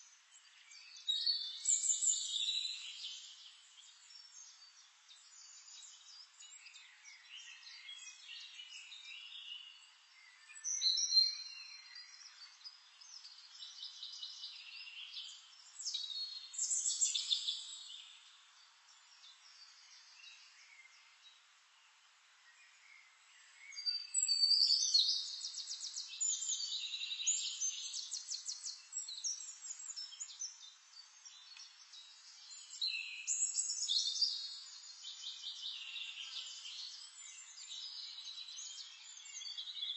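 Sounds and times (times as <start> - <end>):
wild birds singing and chirping: 0.0 - 39.9.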